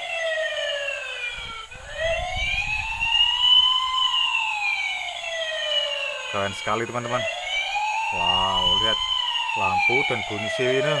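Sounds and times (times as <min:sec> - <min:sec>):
toy siren wailing: 0:00.0 - 0:11.0.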